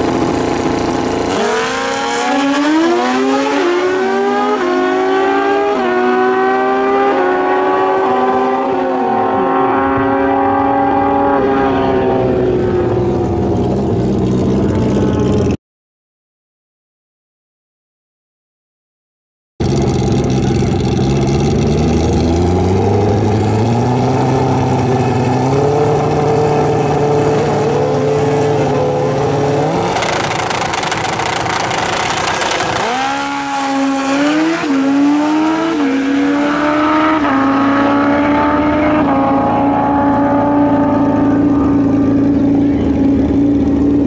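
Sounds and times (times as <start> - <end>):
motorcycle engines revving: 0.0 - 15.6, 19.6 - 44.0.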